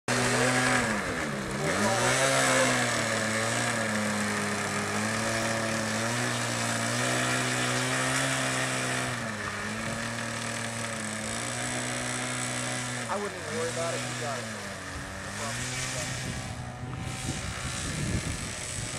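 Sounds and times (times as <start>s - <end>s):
model airplane engine running: 0.1s - 18.9s.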